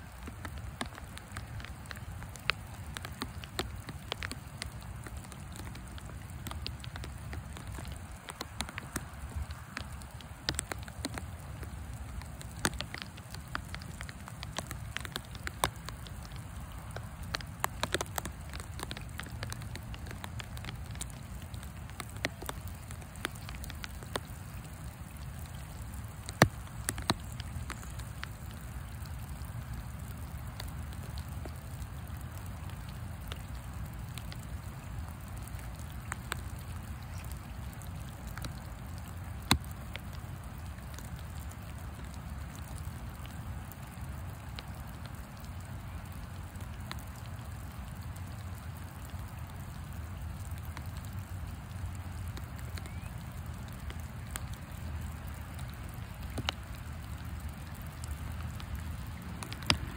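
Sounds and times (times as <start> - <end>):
sharp ticks of raindrops: 0.0 - 59.9
steady rain falling: 0.0 - 59.9.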